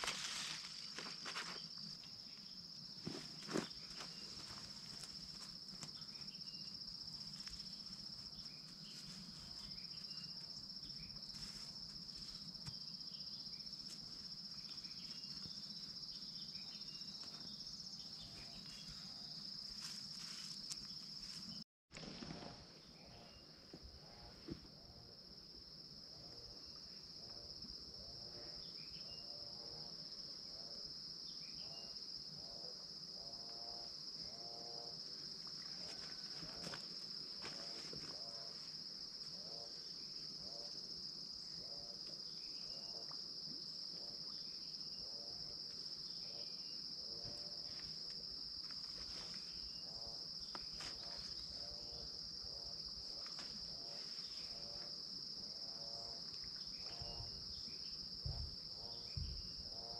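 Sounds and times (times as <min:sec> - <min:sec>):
insects trilling: 0:00.0 - 0:59.9
short lower insect calls: 0:00.0 - 0:59.9.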